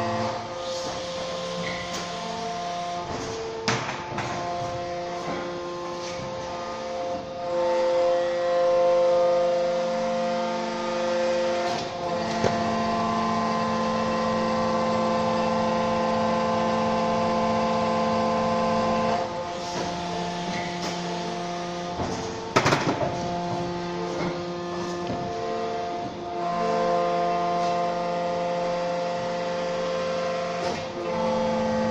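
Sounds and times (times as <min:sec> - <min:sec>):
hydraulic pump whining hum: 0:00.0 - 0:31.9.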